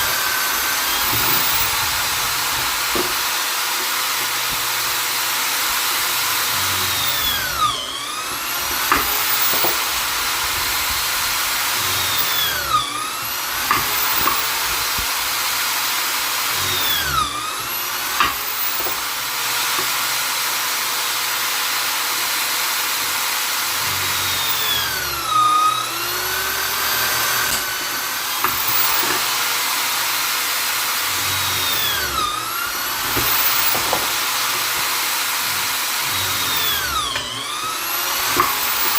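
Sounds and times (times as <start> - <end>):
electric drill motor whining: 0.0 - 38.9.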